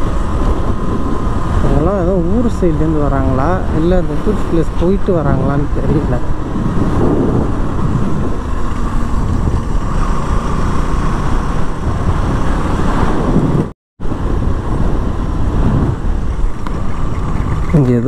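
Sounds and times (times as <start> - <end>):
motorcycle engine rumble: 0.0 - 18.0
wind noise on microphone: 0.0 - 18.0.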